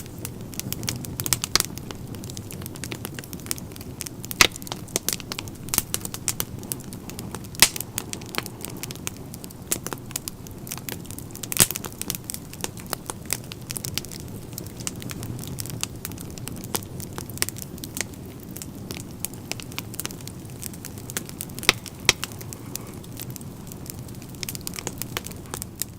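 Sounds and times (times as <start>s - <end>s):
low rush of flame: 0.0s - 25.9s
wood fire crackling: 0.0s - 25.9s.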